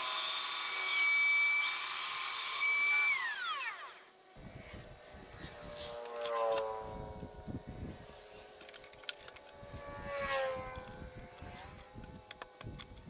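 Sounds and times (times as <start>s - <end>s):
rotary tool motor whining: 0.0s - 13.0s.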